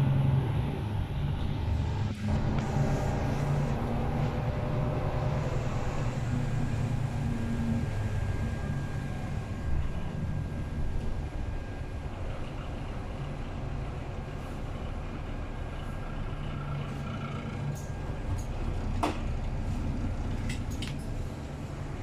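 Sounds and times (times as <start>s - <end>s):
bus engine rumble: 0.0s - 22.0s
road noise: 0.0s - 22.0s.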